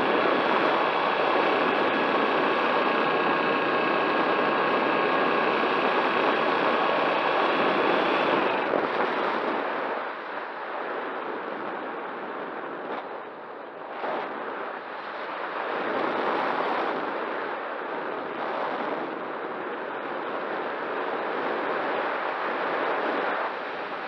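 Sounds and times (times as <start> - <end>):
wind noise: 0.0 - 24.0.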